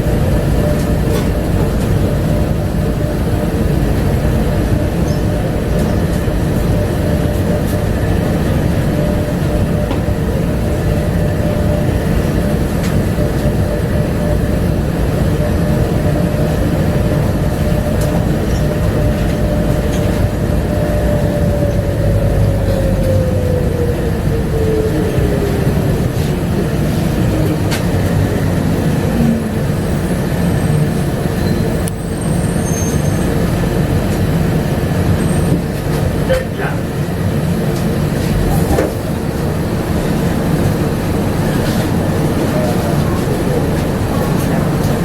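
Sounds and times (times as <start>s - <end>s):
train low rumble: 0.0s - 45.0s.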